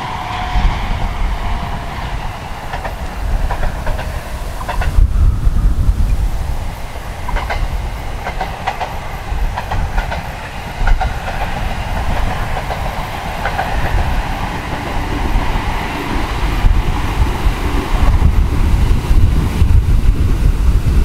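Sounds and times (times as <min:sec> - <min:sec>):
electric train running past: 0:00.0 - 0:21.0
wheels clicking over rails: 0:00.0 - 0:21.0
wind buffeting microphone: 0:00.0 - 0:21.0.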